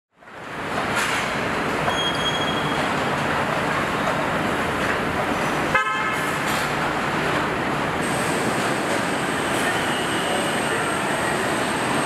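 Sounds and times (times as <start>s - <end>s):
assembly line machinery noise: 0.3s - 12.0s.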